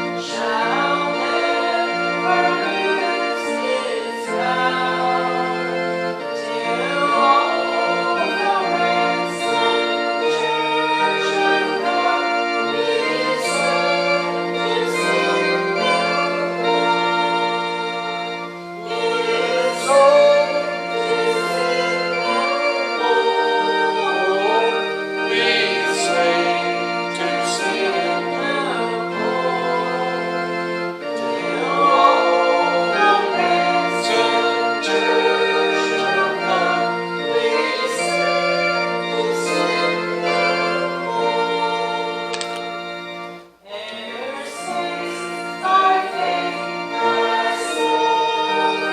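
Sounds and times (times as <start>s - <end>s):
organ playing chords: 0.0s - 48.9s
voices singing: 0.0s - 48.9s.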